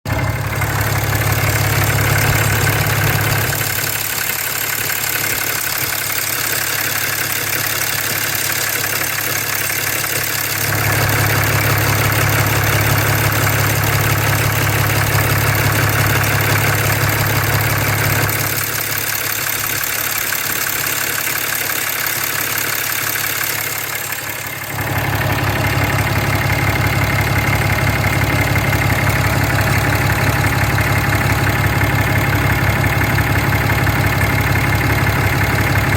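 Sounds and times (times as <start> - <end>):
diesel engine idling: 0.0 - 35.9
rapid engine ticking: 0.0 - 35.9.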